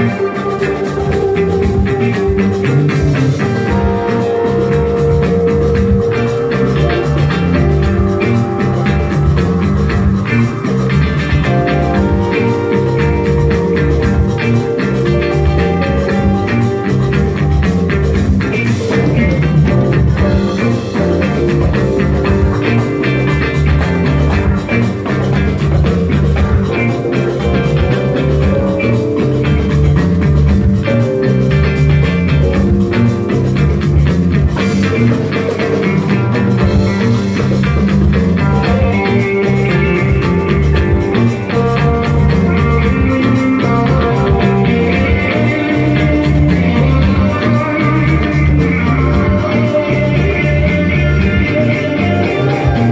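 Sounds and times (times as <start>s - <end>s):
drum kit: 0.0s - 52.9s
electric guitars: 0.0s - 52.9s.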